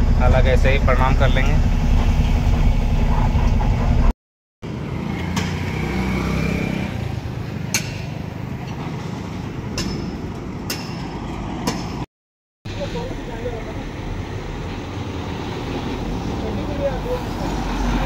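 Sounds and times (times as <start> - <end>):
traffic engine rumble: 0.0 - 12.0, 12.7 - 18.0.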